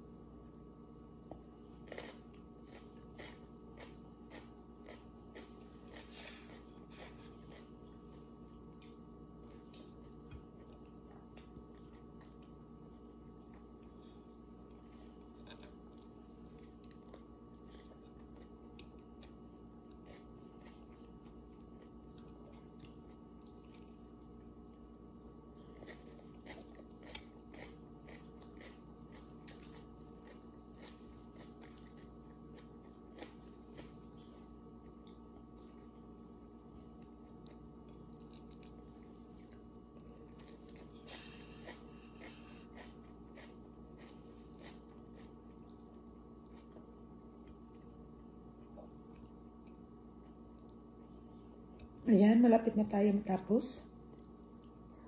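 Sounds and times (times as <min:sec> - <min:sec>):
chewing and mouth sounds: 0:00.3 - 0:14.0, 0:14.6 - 0:52.0, 0:54.1 - 0:55.0.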